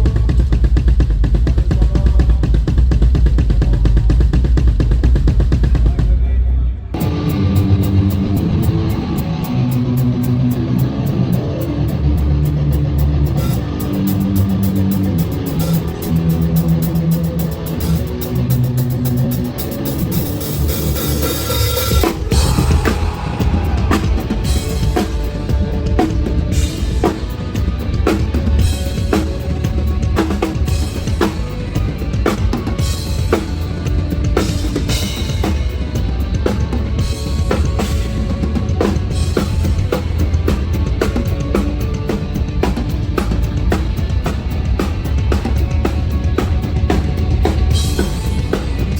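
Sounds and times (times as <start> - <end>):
fast drum and cymbal hits: 0.0 - 6.3, 7.0 - 48.9
bass riff: 0.0 - 48.9
distorted electric guitar: 7.0 - 48.9.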